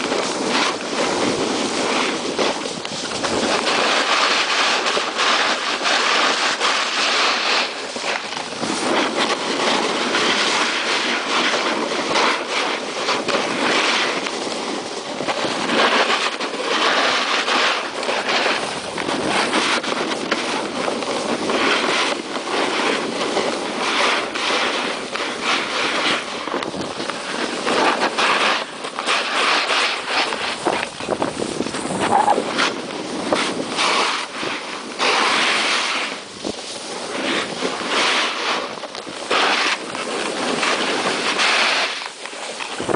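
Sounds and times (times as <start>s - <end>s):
snowboard scraping over snow: 0.0s - 42.9s.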